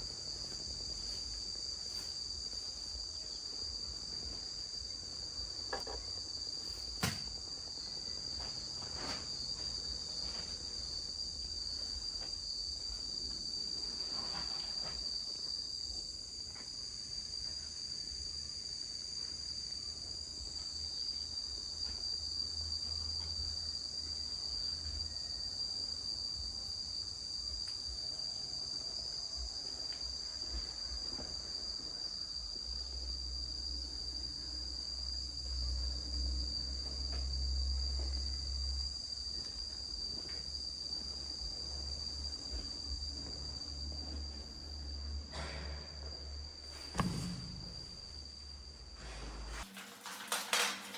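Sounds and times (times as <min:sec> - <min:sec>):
insects chorus: 0:00.0 - 0:50.9.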